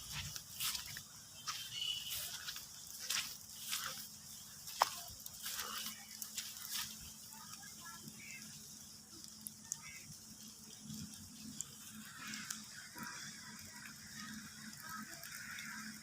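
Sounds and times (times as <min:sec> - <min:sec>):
light rain hissing: 0:00.0 - 0:16.0
rain drips and taps: 0:00.0 - 0:16.0.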